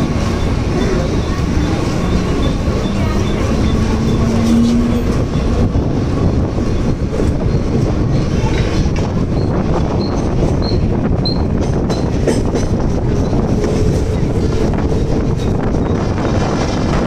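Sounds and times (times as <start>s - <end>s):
rail clatter: 0.0s - 17.0s
train wheels rumbling on rails: 0.0s - 17.0s.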